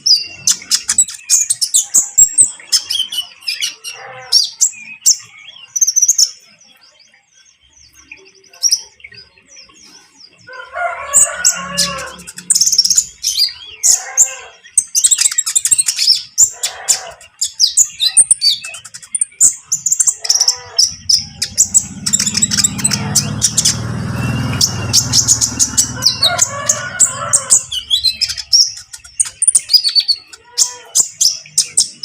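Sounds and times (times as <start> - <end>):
birds twittering chirps and trills: 0.0 - 32.0
coarse bird calls: 0.0 - 32.0.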